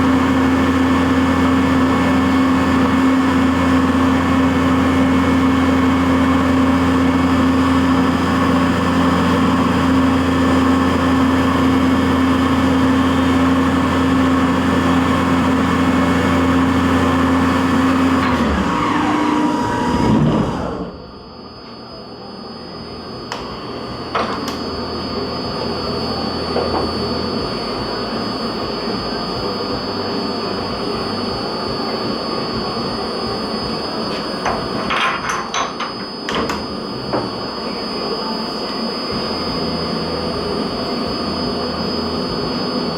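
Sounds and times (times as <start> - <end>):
milling machine humming: 0.0 - 42.9.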